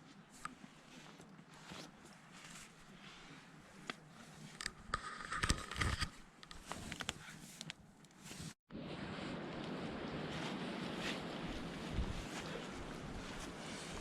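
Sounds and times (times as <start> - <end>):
fabric rustling and scraping: 0.2 - 14.0.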